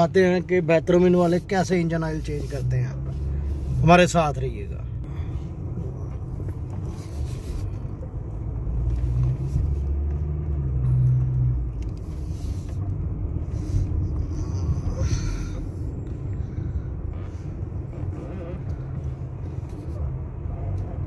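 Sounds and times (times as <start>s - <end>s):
car engine: 0.0s - 21.0s
road rumble inside car: 0.0s - 21.0s.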